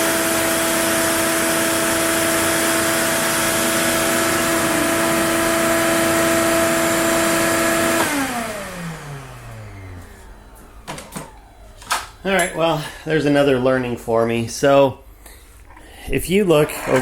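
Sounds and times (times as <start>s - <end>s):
router spindle whine: 0.0s - 14.8s.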